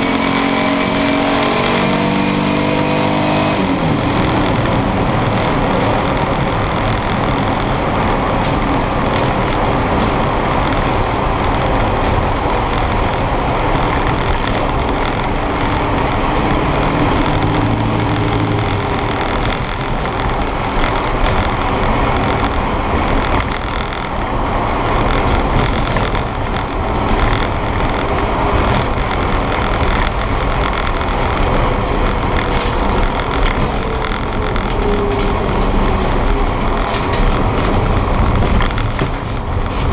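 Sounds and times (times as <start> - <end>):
car engine running: 0.0 - 39.9
road and wind noise: 0.0 - 39.9.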